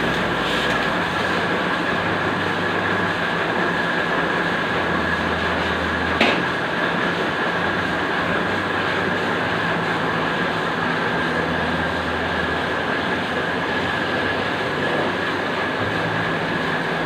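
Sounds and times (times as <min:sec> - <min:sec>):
cutting machine hum: 0:00.0 - 0:17.0
high-pitched machine whine: 0:00.0 - 0:17.0.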